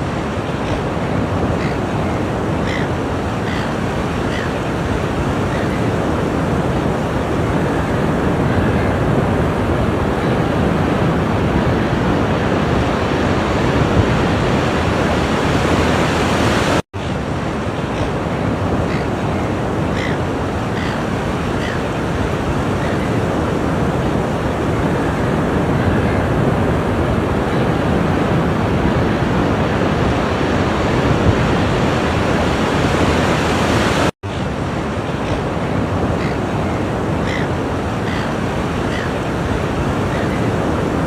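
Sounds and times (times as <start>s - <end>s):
waves breaking on shore: 0.0s - 41.0s.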